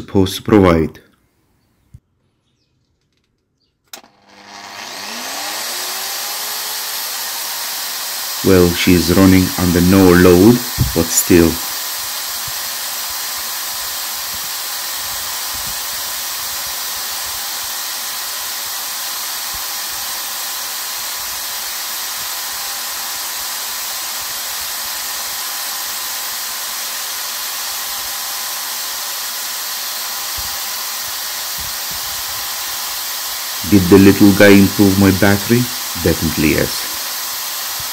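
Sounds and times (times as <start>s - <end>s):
electric polisher motor whir: 4.0s - 37.9s.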